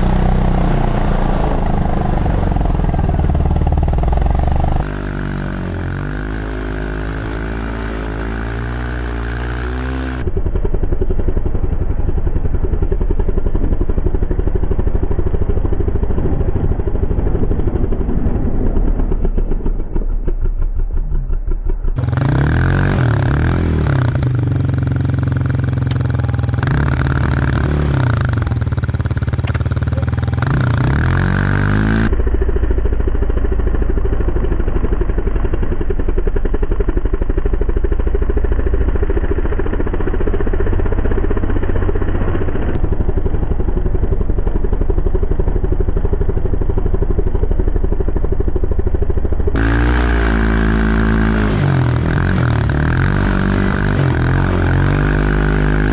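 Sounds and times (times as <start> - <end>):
snowblower engine running: 0.0 - 55.9.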